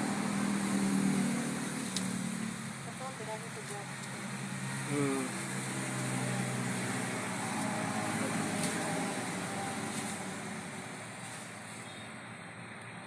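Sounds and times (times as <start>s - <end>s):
vehicle engine passing by: 0.0s - 12.7s.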